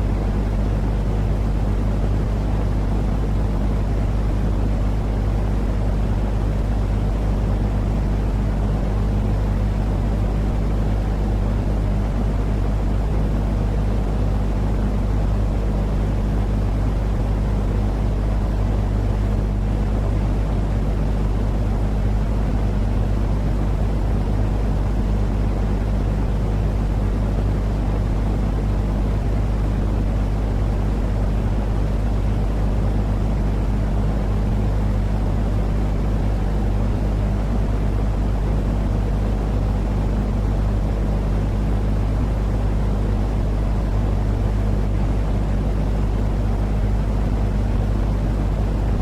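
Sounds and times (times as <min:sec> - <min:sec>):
constant low rumble: 0:00.0 - 0:49.0
droning hum: 0:00.0 - 0:49.0.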